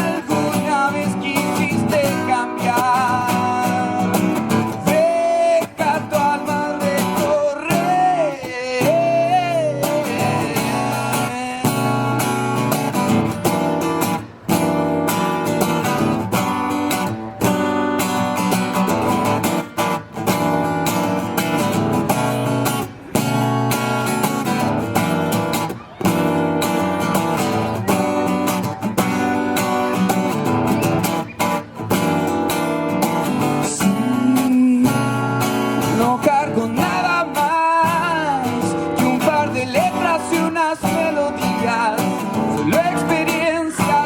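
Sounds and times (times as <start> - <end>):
acoustic guitar strumming chords: 0.0 - 44.0.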